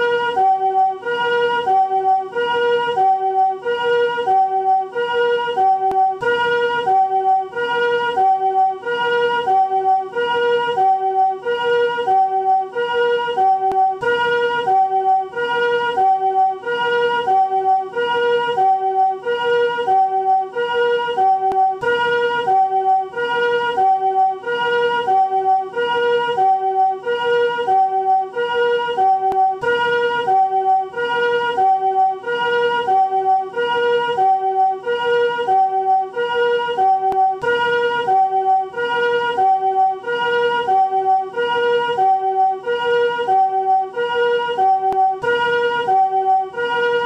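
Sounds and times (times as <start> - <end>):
two-tone ambulance siren: 0.0 - 47.0.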